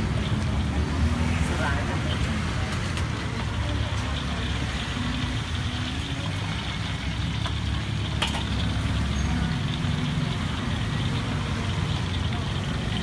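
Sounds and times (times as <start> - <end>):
food bubbling in frying oil: 0.0 - 13.0.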